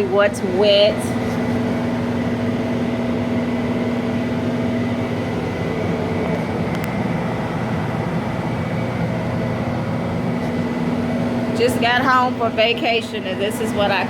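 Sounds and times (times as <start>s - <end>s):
loud motor hum: 0.0s - 14.0s.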